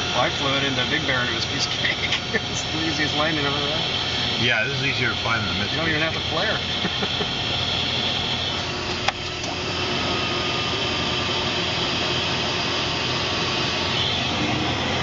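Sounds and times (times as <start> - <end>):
jet cockpit rushing noise: 0.0 - 15.0.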